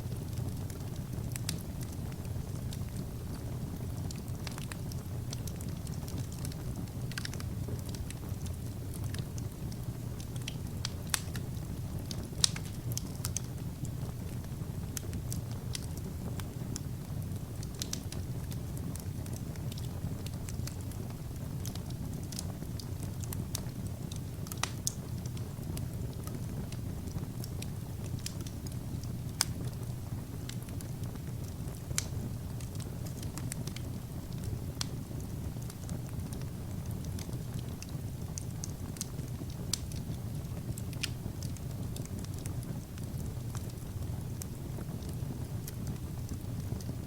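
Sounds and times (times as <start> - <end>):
fire crackling and popping: 0.0 - 47.0
fire rumbling: 0.0 - 47.0.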